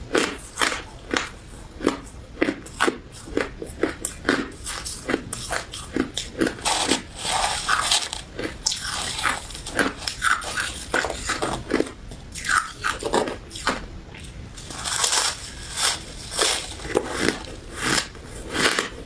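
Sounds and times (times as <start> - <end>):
crunching and chewing ice dessert: 0.0 - 19.0.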